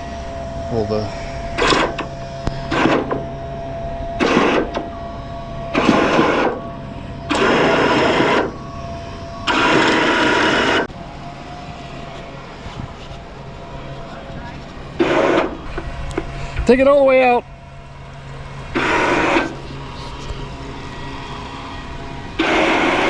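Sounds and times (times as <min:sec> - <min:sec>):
powered winch whirring: 0:00.0 - 0:23.0.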